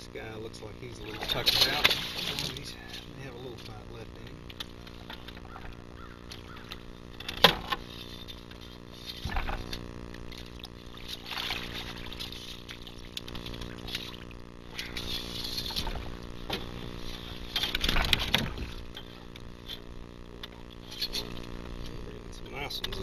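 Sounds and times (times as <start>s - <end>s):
outboard motor idling: 0.0s - 23.0s
water splashing: 0.9s - 2.9s, 4.4s - 21.6s.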